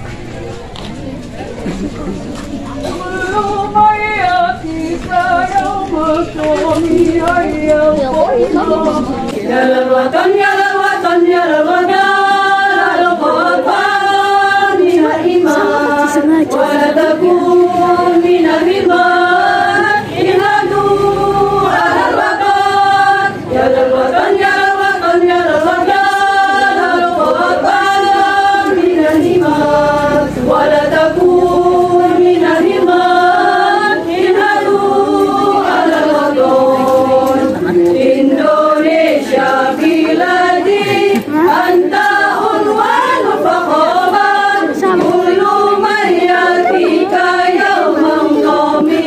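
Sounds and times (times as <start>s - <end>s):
women's choir singing: 2.1s - 49.0s.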